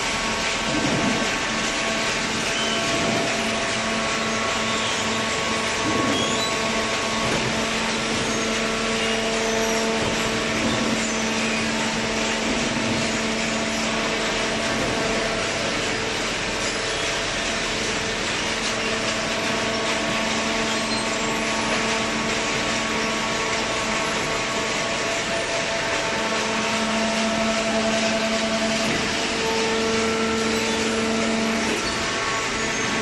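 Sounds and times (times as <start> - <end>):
baler hydraulic hum and whine: 0.0 - 33.0.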